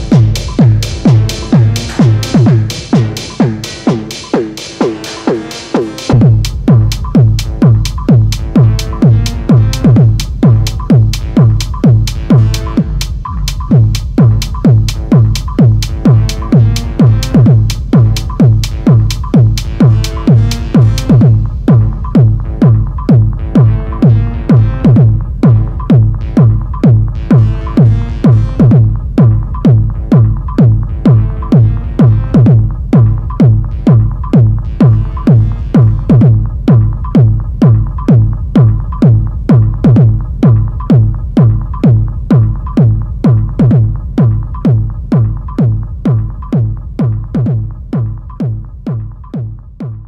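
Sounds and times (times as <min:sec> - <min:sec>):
synth and percussion patterns: 0:00.0 - 0:50.0
techno kick drum: 0:00.0 - 0:50.0.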